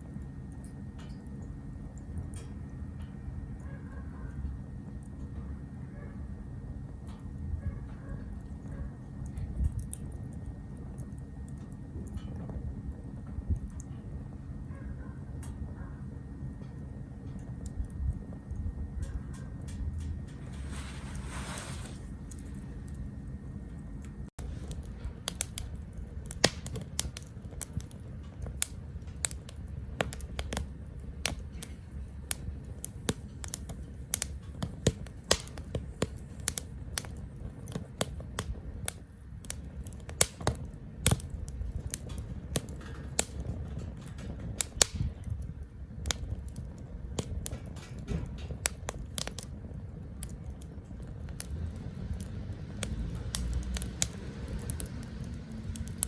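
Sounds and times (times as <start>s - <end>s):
wood fire crackling and popping: 0.0s - 3.7s, 6.4s - 14.6s, 16.4s - 56.0s
low rumble of flames: 0.0s - 56.0s.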